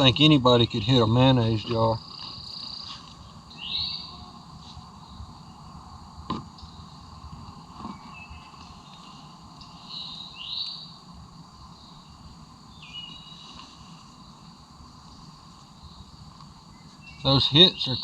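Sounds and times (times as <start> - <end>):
bird calls: 0.0 - 18.0
high insect drone: 0.0 - 18.0.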